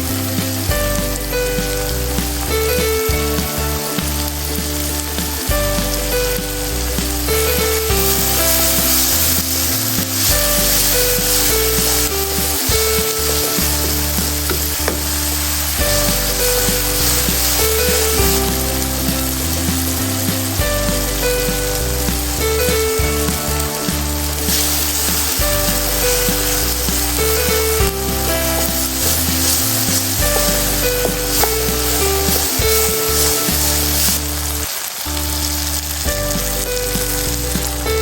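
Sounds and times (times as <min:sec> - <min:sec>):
background music: 0:00.0 - 0:38.0
food sizzling in hot oil: 0:00.0 - 0:38.0.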